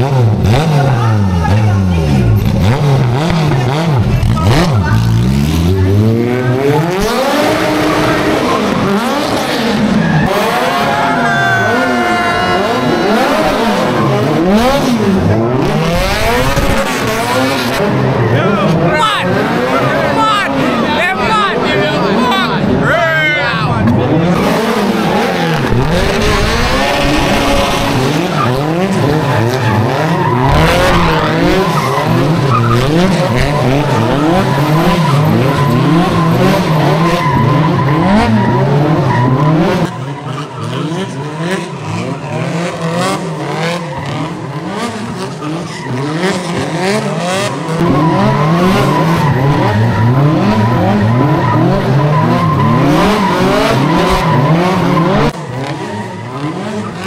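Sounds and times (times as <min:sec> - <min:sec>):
car engines revving: 0:00.0 - 0:57.0
tires squealing: 0:00.0 - 0:57.0.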